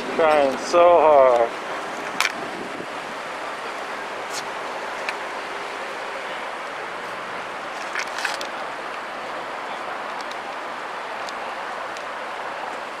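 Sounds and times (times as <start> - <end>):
passing traffic: 0.0 - 13.0
wind: 0.0 - 13.0.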